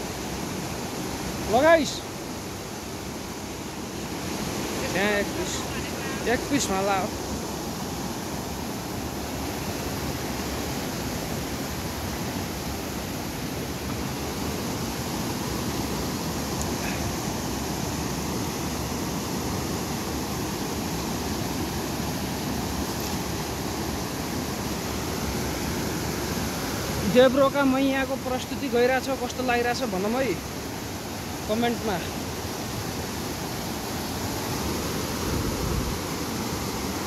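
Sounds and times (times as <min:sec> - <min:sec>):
river rushing over boulders: 0:00.0 - 0:37.0.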